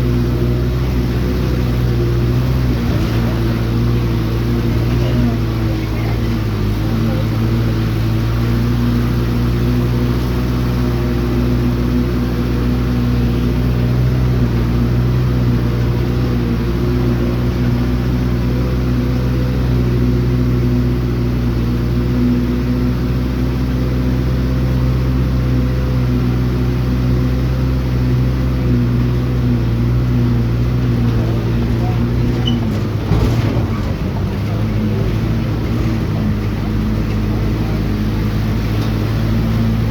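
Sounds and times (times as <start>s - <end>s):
road noise: 0.0s - 39.9s
vehicle engine humming: 0.0s - 39.9s.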